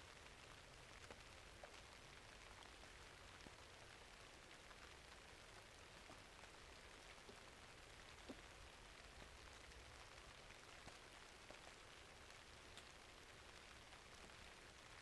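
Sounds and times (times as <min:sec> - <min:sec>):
faint rainfall: 0:00.0 - 0:15.0.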